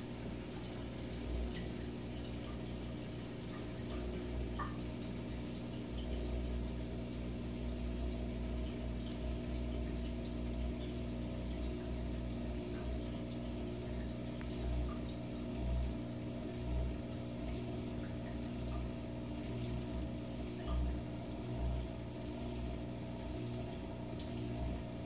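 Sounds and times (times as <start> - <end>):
dishwasher motor hum: 0.0 - 25.0.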